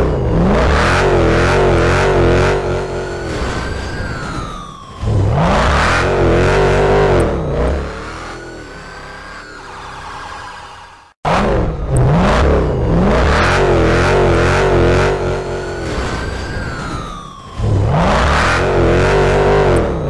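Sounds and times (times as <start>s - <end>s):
car engine revving hard: 0.2s - 16.8s, 17.6s - 20.0s.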